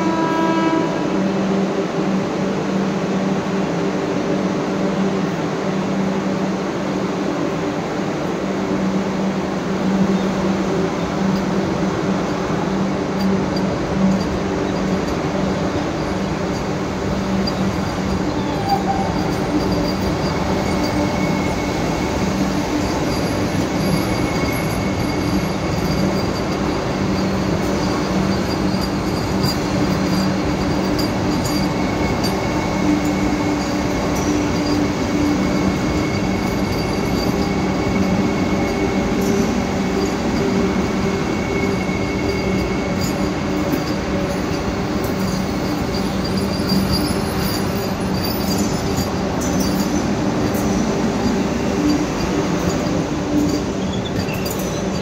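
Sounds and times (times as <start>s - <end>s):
electric train rolling slowly: 0.0s - 55.0s.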